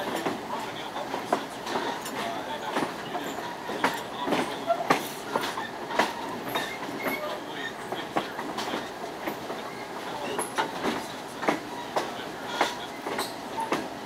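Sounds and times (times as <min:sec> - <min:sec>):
train wheels clacking: 0:00.0 - 0:14.0.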